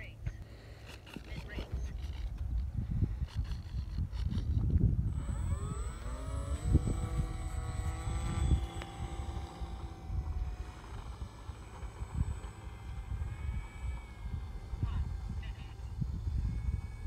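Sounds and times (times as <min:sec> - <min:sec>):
electric motor propeller whine: 0:00.0 - 0:17.0.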